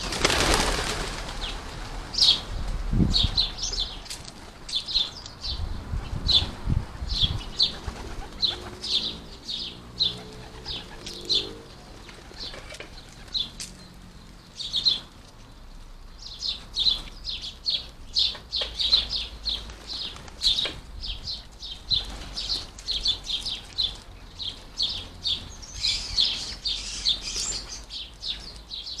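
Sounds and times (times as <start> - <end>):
sparrows chirping: 0.0 - 29.0.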